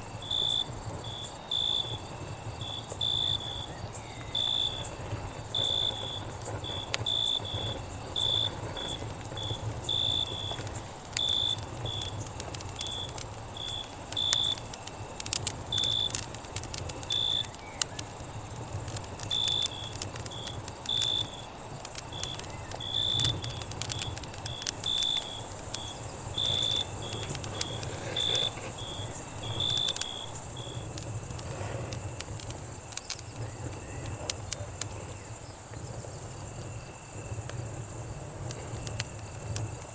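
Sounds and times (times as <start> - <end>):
campfire crackling: 0.0 - 39.9
cicadas droning: 0.0 - 39.9
cricket chirping: 0.0 - 39.9.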